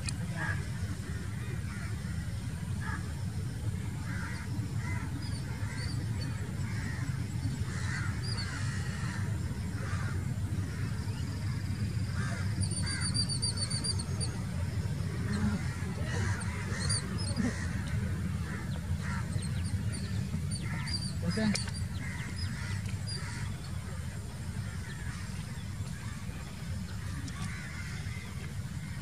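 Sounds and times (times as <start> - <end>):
steady low rumble: 0.0 - 29.0
birds harsh calls: 4.0 - 29.0.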